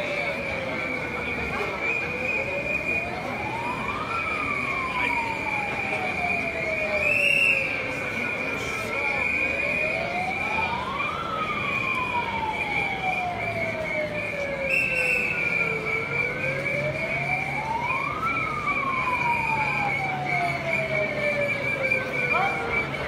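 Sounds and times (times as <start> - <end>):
siren wailing: 0.0 - 23.0.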